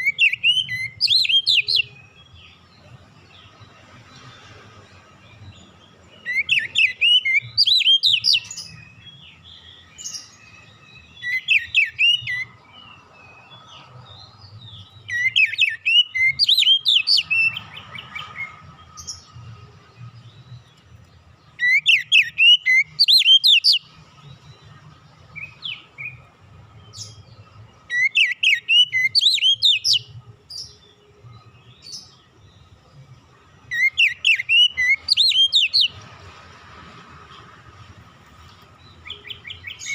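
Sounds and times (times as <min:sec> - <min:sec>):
bird singing whistled notes: 0:00.0 - 0:04.3, 0:05.2 - 0:36.1, 0:38.8 - 0:39.9.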